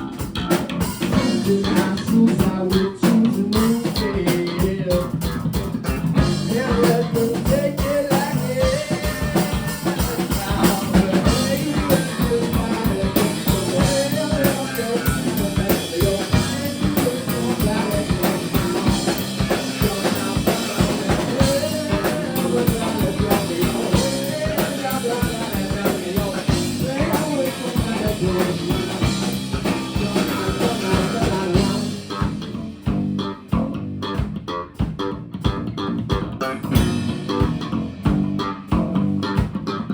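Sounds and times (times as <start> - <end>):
fast drumming: 0.0 - 39.8
bass guitar: 0.0 - 39.9
electric guitar: 0.0 - 39.9.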